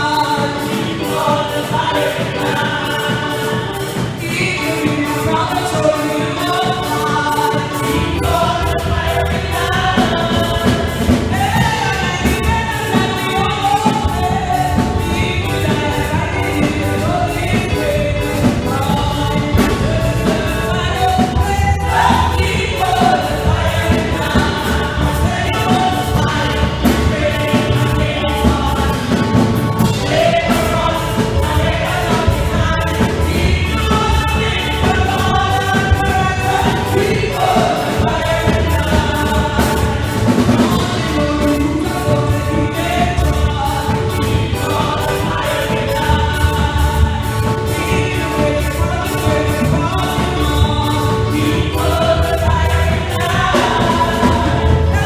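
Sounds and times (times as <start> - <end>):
amplified accompaniment with beat: 0.0 - 55.0
lead singer on microphone: 0.0 - 55.0
women's choir singing: 0.0 - 55.0.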